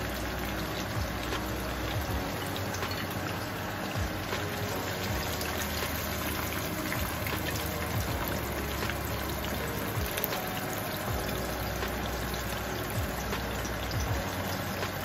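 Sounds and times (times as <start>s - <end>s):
hot oil sizzling in a frying pan: 0.0s - 15.0s.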